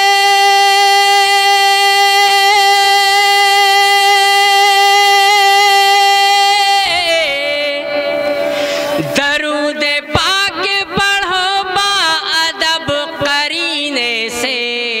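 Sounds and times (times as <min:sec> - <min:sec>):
man singing through pa: 0:00.0 - 0:15.0.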